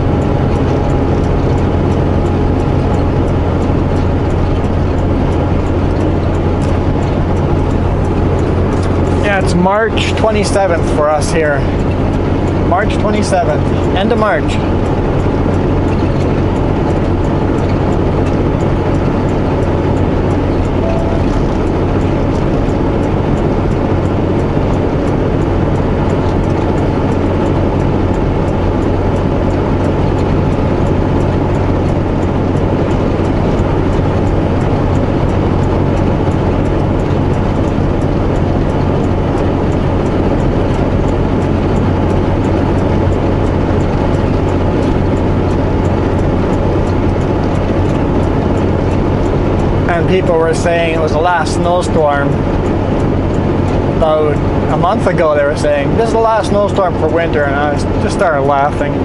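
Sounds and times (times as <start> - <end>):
diesel truck engine droning: 0.0 - 59.0
road and cab rumble: 0.0 - 59.0.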